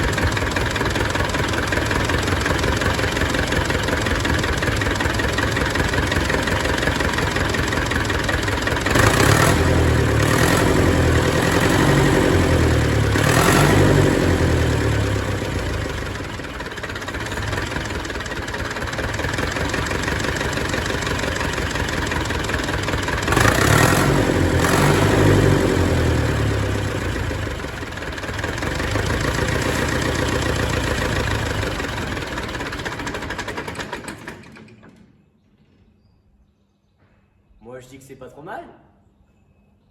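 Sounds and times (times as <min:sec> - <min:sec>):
tractor diesel engine revving: 0:00.0 - 0:34.7.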